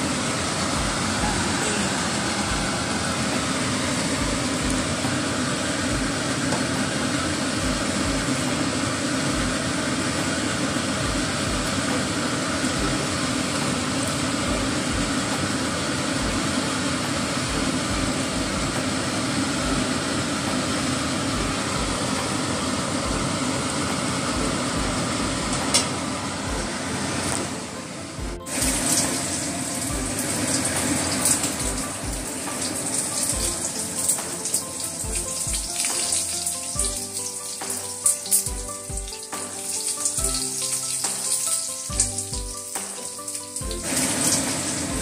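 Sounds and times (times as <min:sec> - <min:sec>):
soup boiling and bubbling: 0:00.0 - 0:27.5, 0:28.2 - 0:45.0.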